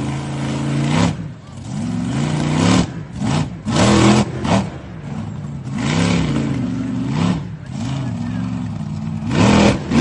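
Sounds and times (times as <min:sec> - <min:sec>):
monster truck engine revving: 0:00.0 - 0:10.0.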